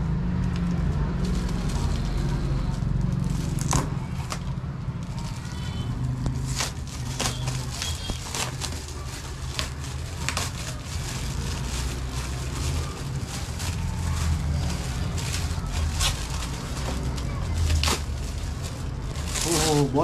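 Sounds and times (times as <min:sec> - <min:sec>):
plastic wrapping tearing: 0:00.4 - 0:20.0
foil gift bag crinkling: 0:01.0 - 0:20.0.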